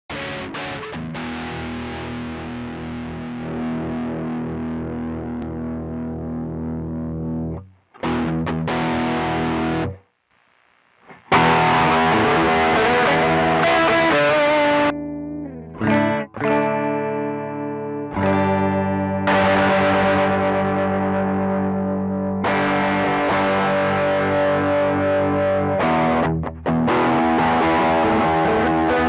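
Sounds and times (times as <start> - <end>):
electric guitar playing: 0.1 - 10.0, 11.0 - 29.0.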